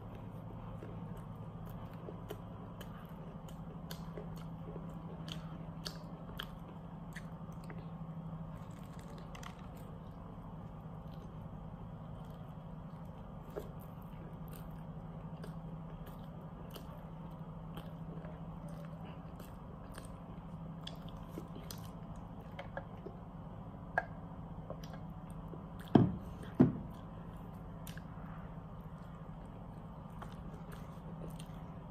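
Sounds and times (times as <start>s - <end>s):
biting and chewing burger: 0.0s - 31.9s
steady low hum: 0.0s - 31.9s.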